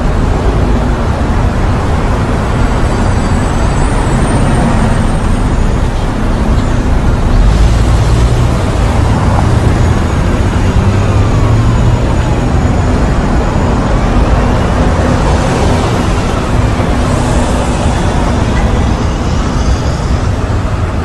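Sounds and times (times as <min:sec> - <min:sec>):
dense road traffic rumble: 0:00.0 - 0:21.0
whines of passing vehicles: 0:00.0 - 0:21.0.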